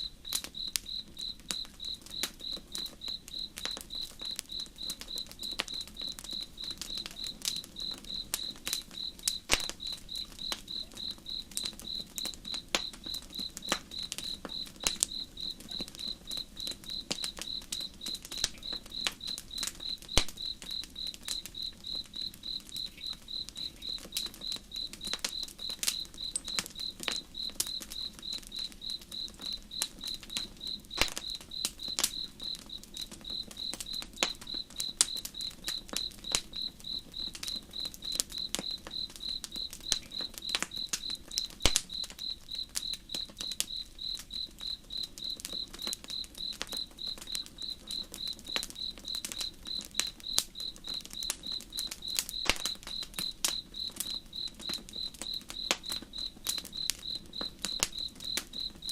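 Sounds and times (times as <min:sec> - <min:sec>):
campfire crackling and popping: 0:00.0 - 0:58.9
cricket chirping: 0:00.0 - 0:58.9.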